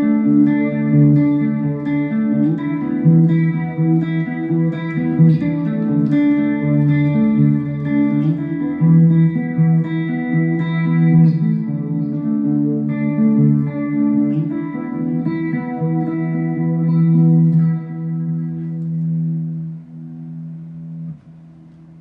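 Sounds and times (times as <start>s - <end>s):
electric guitar with long sustain: 0.0s - 22.0s.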